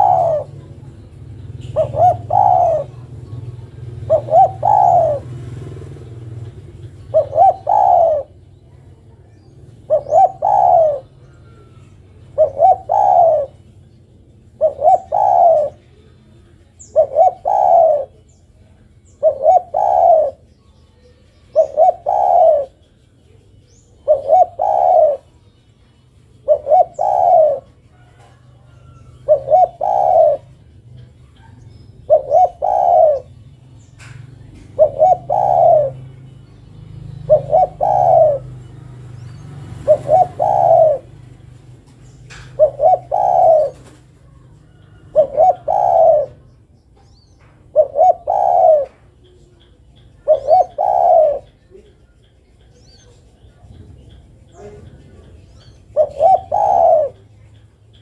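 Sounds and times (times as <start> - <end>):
dove cooing: 0.0 - 20.5, 21.4 - 25.5, 26.2 - 58.0.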